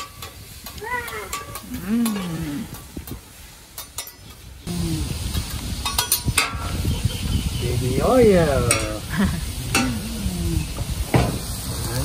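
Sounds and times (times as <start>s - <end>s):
peppers sizzling on griddle: 0.0s - 12.0s.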